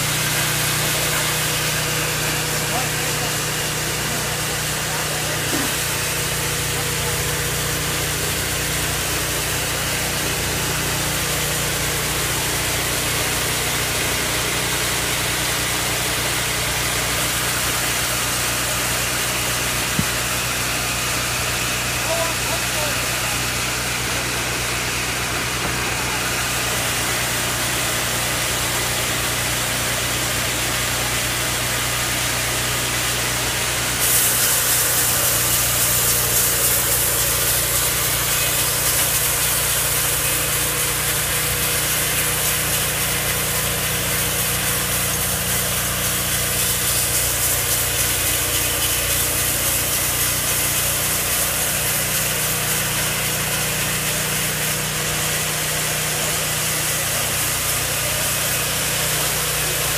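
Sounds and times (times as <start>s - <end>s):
saw blade cutting log: 0.0s - 59.9s
sawmill engine running: 0.0s - 59.9s.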